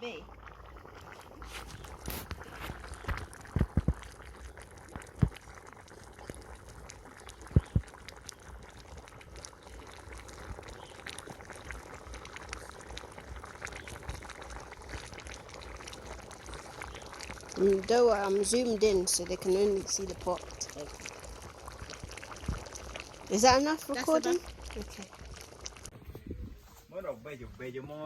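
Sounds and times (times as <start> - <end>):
liquid bubbling in a pot: 0.0 - 26.5.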